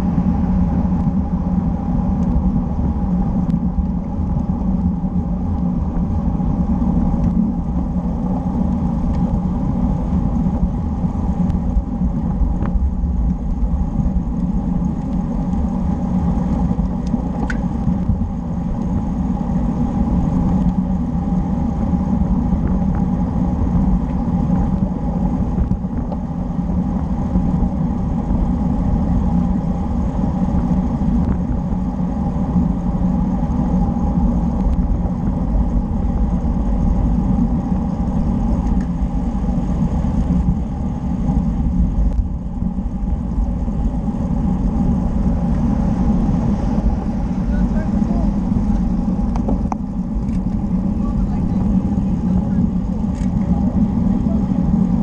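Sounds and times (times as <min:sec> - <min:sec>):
bike tyres humming on asphalt: 0:00.0 - 0:55.0
wind rumble on microphone: 0:00.0 - 0:55.0.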